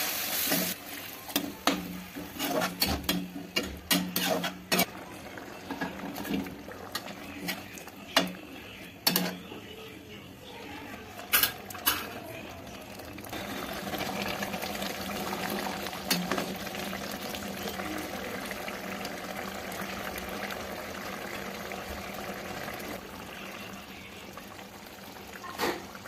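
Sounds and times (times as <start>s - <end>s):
gravy simmering in a pan: 0.7s - 26.0s.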